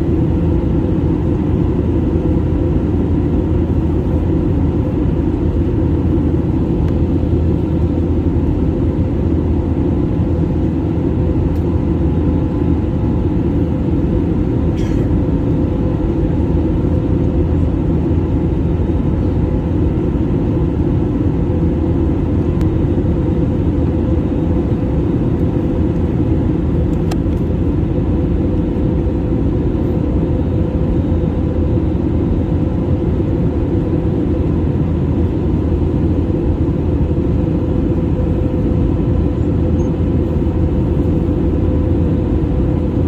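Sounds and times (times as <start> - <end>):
airplane cabin engine and airflow rush: 0.0 - 43.0.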